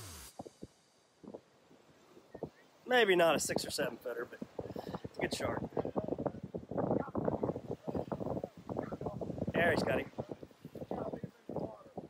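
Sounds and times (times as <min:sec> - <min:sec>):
faint low thumps: 0:00.3 - 0:02.6, 0:03.3 - 0:12.0.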